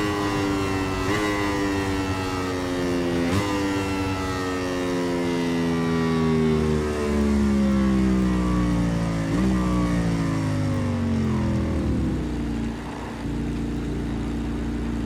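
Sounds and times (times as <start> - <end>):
racing motorcycle engine running: 0.0 - 15.0.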